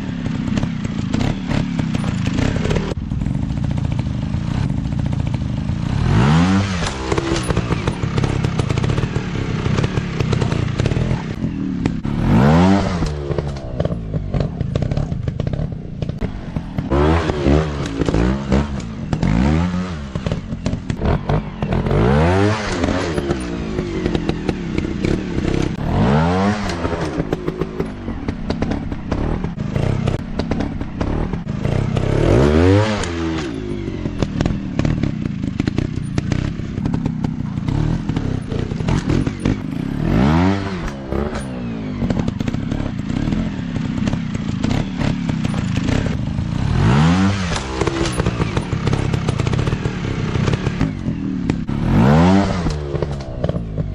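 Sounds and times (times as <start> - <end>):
motorcycle engines revving: 0.0 - 53.9
knocks and clatter: 0.3 - 53.9.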